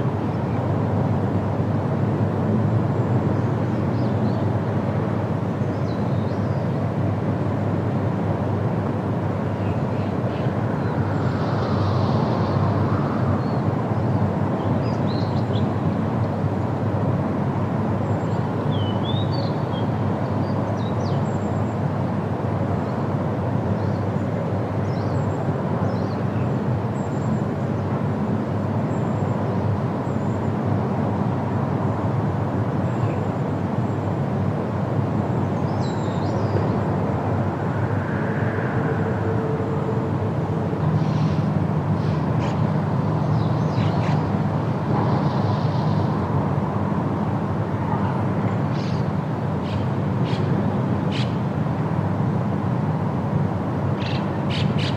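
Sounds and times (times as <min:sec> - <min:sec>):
wind rushing through leaves: 0:00.0 - 0:54.9.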